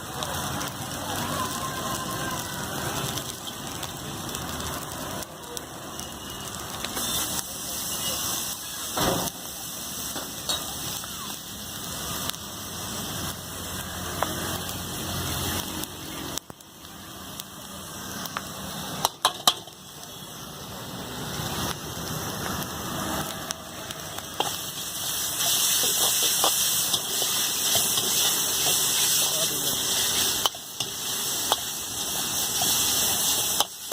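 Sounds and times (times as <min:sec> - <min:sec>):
food frying: 0:00.0 - 0:33.9.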